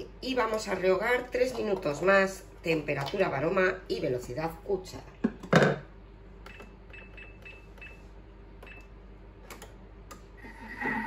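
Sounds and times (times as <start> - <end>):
kitchen machine whine: 0.0 - 11.0.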